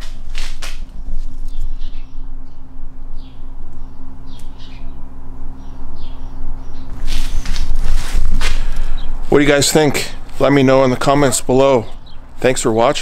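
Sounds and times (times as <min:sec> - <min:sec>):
steady low hum: 0:00.0 - 0:13.0
small birds chirping: 0:01.2 - 0:13.0.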